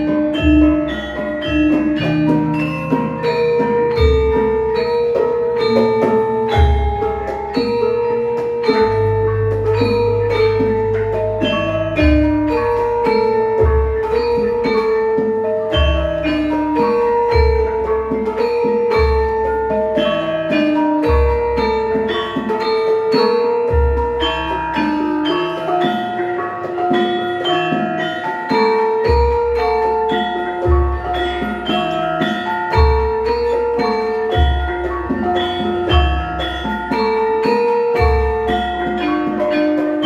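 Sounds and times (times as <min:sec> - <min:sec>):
gamelan ensemble playing: 0:00.0 - 0:40.0.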